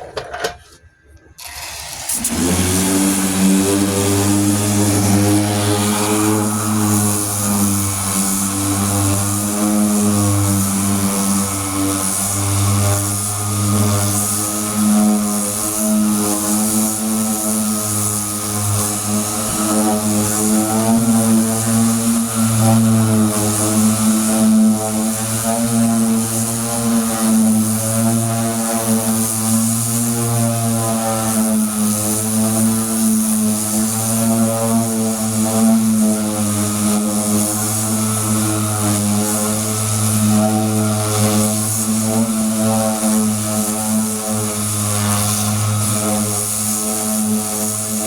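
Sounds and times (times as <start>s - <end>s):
electric sander whining: 1.2s - 48.0s.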